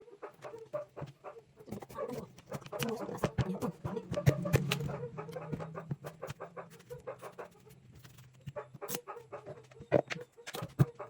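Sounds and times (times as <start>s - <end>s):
chickens clucking: 0.0s - 7.8s, 8.5s - 11.0s.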